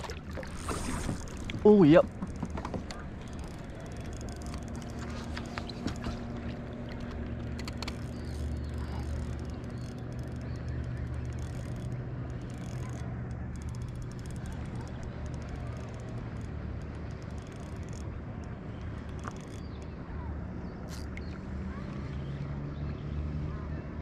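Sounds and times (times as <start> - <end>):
water lapping at hull: 0.0 - 23.9
kayak low rumble: 0.0 - 24.0
small clicks and ticks: 0.4 - 20.0.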